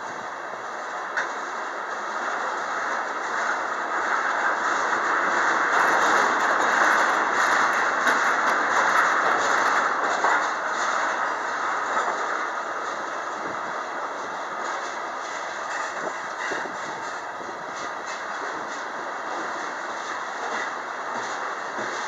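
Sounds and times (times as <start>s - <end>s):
train wheels rumbling on rail: 0.0s - 22.0s
wheels clacking over rail joints: 0.8s - 22.0s.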